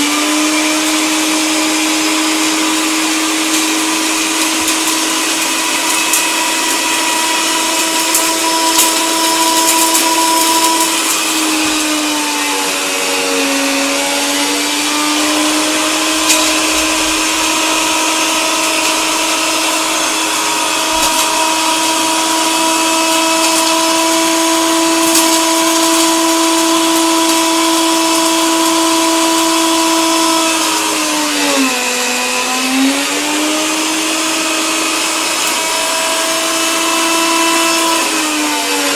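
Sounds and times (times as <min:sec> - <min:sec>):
coffee grinder motor whining: 0:00.0 - 0:38.9.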